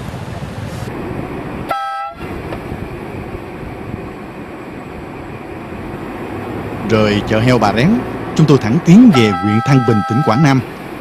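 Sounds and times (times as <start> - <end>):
vehicle traffic noise: 0.0 - 11.0.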